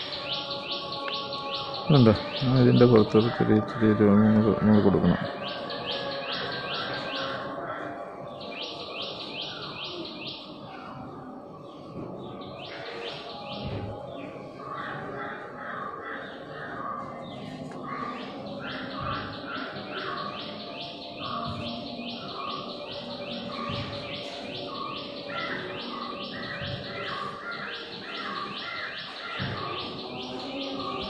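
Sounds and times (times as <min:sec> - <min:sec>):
birds lower slower calls: 0:00.0 - 0:31.0.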